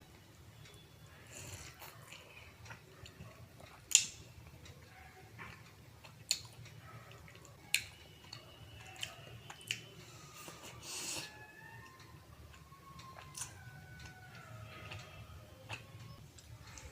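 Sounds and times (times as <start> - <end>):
chewing soft syrupy food: 0.6 - 16.9.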